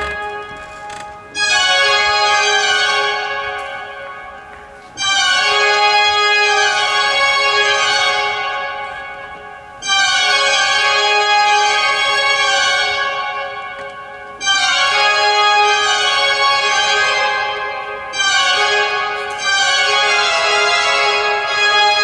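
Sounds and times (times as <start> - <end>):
pipe organ playing loud chords: 0.0 - 22.0.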